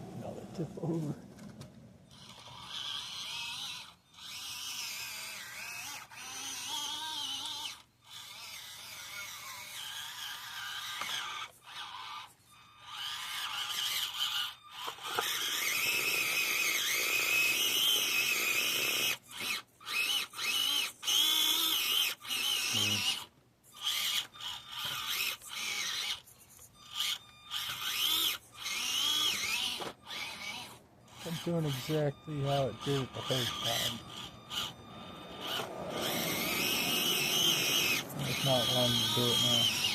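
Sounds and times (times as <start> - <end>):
small electric motor whining: 0.0 - 39.9.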